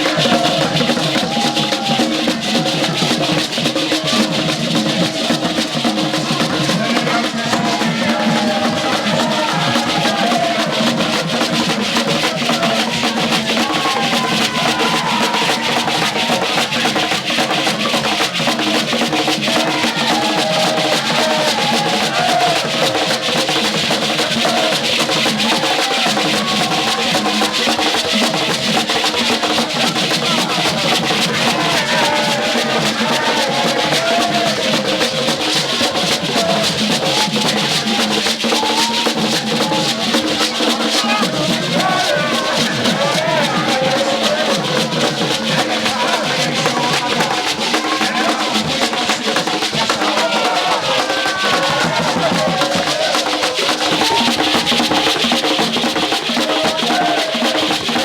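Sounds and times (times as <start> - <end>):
fast drumming and percussion: 0.0 - 58.0.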